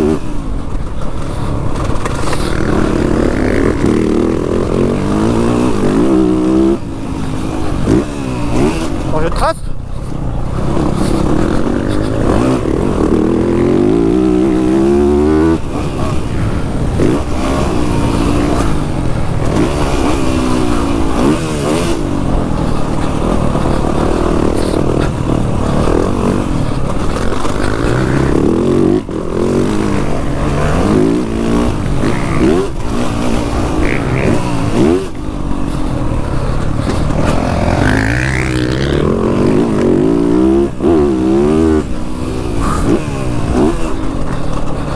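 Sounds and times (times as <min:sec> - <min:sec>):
dirt bike engine revving: 0:00.0 - 0:09.5, 0:10.4 - 0:44.9.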